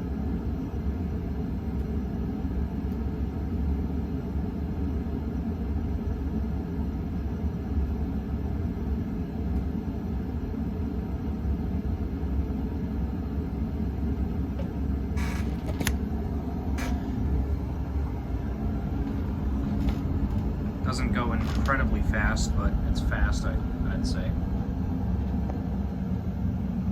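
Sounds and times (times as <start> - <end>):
ceiling fan running: 0.0 - 26.9.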